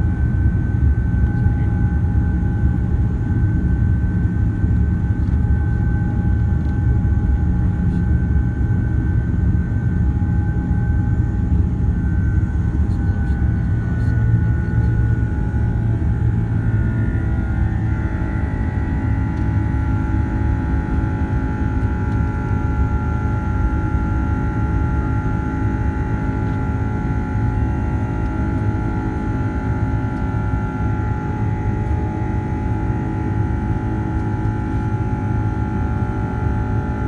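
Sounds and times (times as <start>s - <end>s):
jet engine roar in cabin: 0.0s - 37.0s.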